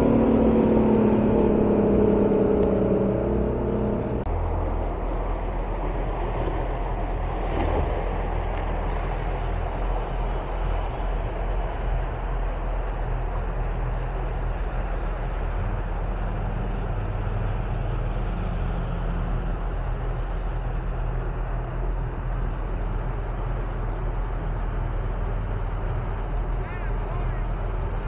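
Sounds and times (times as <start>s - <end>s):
outboard boat engines running: 0.0s - 18.7s, 19.5s - 28.0s
water rushing along hull: 0.0s - 28.0s.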